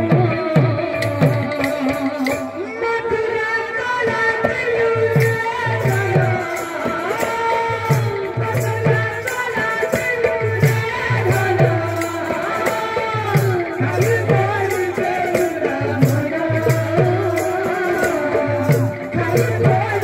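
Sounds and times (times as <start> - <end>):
double-headed drums: 0.0 - 20.0
person singing into microphone: 0.0 - 20.0.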